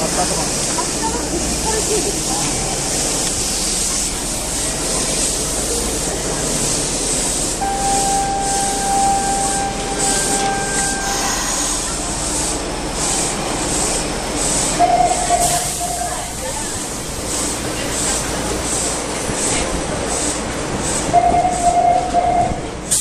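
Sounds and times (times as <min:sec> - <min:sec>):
subway train rumbling: 0:00.0 - 0:23.0
train whine: 0:00.0 - 0:23.0.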